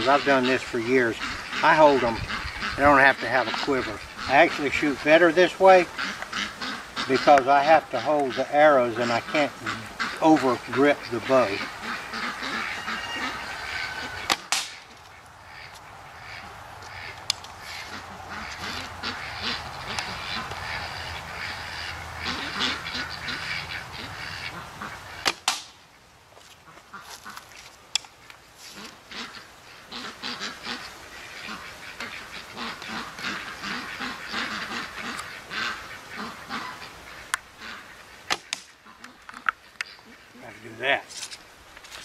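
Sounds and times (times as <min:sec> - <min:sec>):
birds calling: 0:00.0 - 0:42.0.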